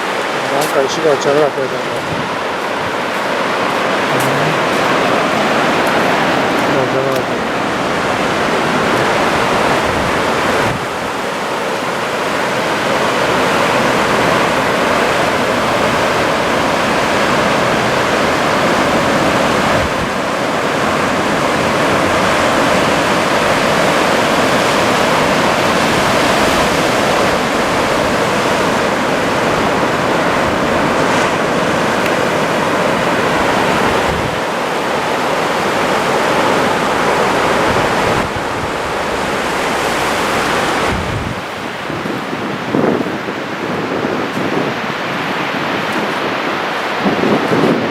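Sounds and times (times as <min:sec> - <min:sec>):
surf breaking on beach: 0:00.0 - 0:47.9.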